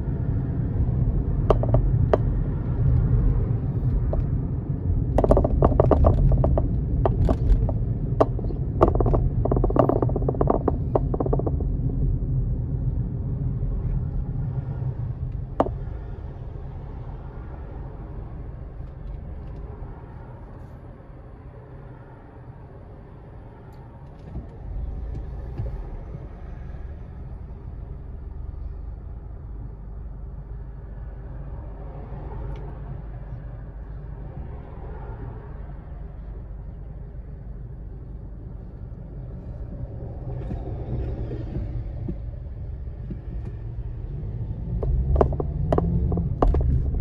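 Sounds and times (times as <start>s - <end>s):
car road noise rumble: 0.0s - 47.0s.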